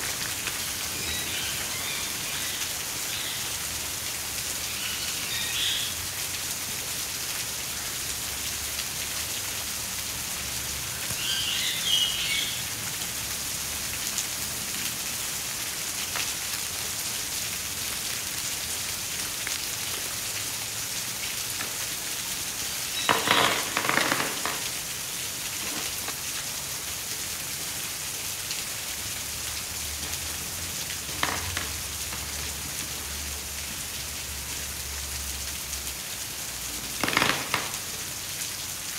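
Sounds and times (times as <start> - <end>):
steady rain-like hiss: 0.0 - 38.9.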